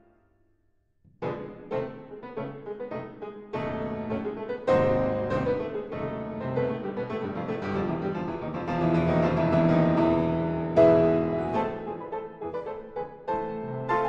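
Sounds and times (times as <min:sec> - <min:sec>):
piano music: 0:01.2 - 0:14.0.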